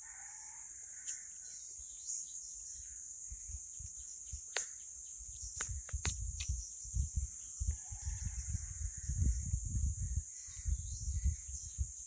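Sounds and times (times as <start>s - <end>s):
insects droning: 0.0s - 12.0s
sharp bird chirps: 1.0s - 12.0s.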